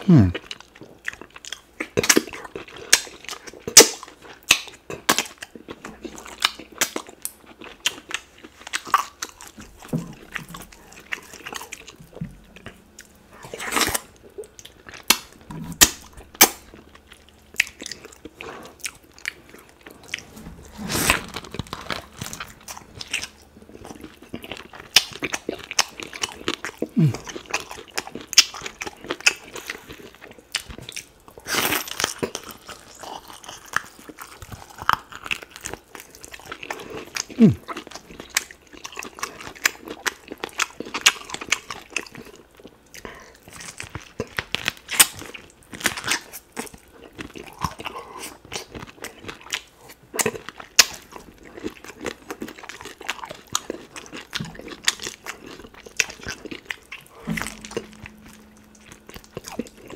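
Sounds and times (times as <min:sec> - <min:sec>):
biting and chewing mouth sounds: 0:00.0 - 0:59.9.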